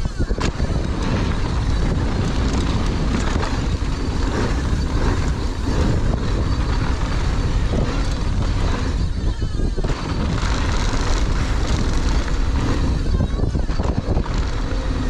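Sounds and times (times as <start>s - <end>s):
mountain bike rattling on rough trail: 0.0s - 15.0s
wind buffeting microphone: 0.0s - 15.0s.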